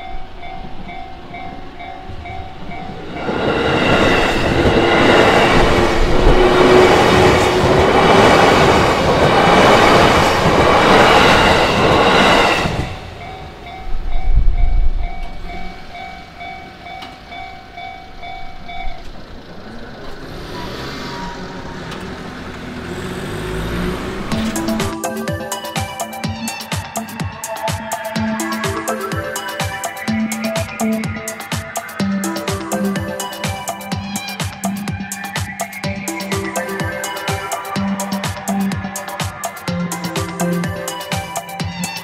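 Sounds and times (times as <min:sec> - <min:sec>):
railway crossing bell ringing: 0:00.0 - 0:19.7, 0:20.5 - 0:22.3, 0:24.3 - 0:42.0
train rushing past: 0:00.0 - 0:42.0.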